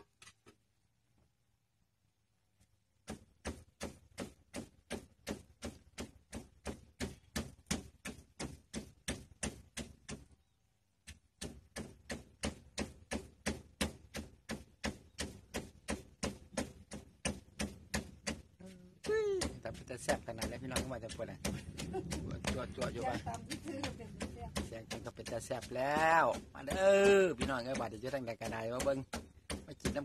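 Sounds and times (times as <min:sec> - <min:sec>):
wooden pestle pounding in mortar: 0:03.0 - 0:10.4, 0:11.0 - 0:30.0.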